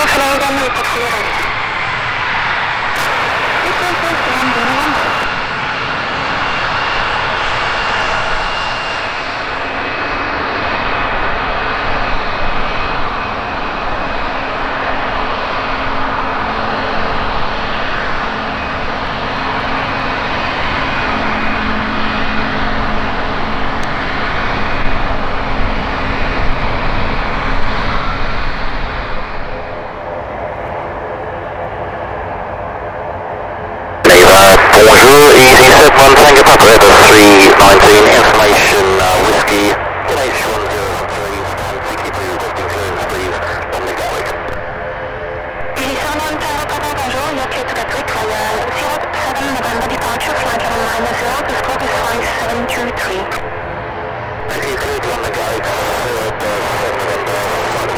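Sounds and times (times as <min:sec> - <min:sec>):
turboprop propeller drone: 0:00.0 - 0:57.9.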